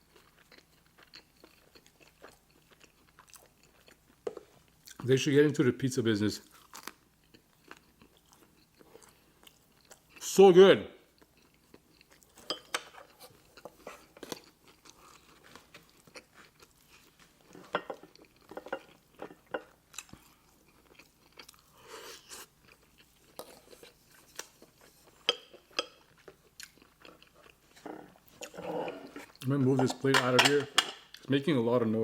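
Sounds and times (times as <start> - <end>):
person chewing food: 0.0 - 5.0, 6.4 - 10.2, 11.1 - 29.5.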